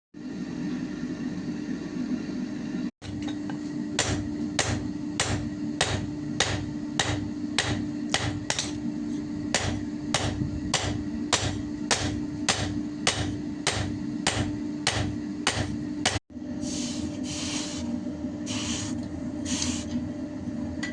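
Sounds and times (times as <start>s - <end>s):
steady hum: 0.2s - 20.9s.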